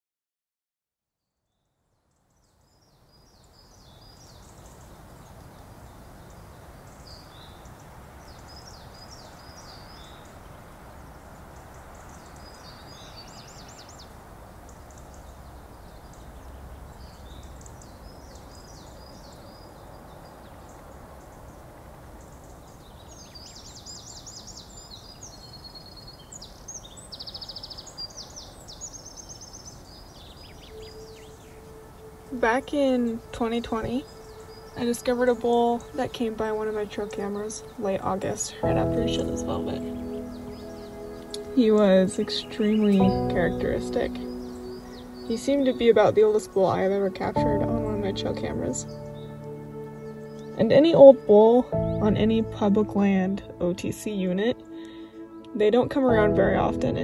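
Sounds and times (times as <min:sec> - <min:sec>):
small birds chirping and trilling: 0:01.5 - 0:57.0
steady outdoor hush: 0:02.2 - 0:57.0.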